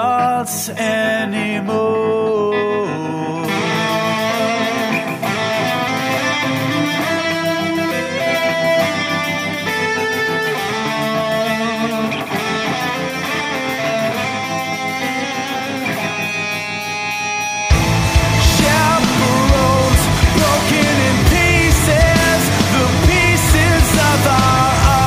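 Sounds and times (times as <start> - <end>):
instrumental guitar music: 0.0 - 25.0.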